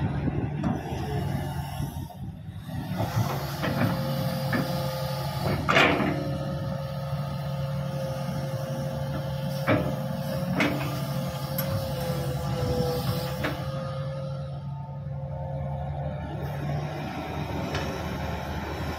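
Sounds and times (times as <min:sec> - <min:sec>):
heavy diesel engines running: 0:00.0 - 0:18.9.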